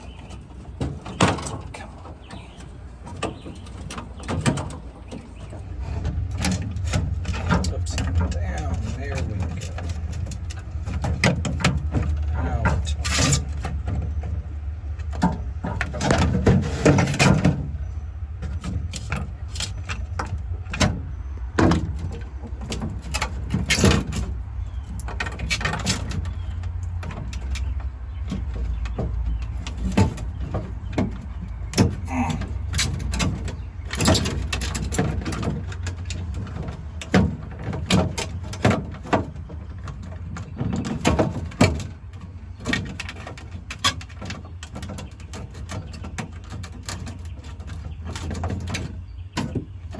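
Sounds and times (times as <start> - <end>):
hands clicking and knocking on wiring: 0.0 - 49.9.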